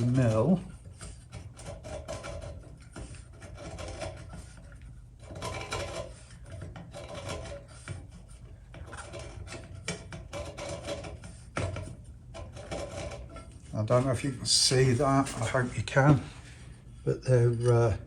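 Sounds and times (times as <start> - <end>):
scriber scraping metal tube: 0.0 - 18.0.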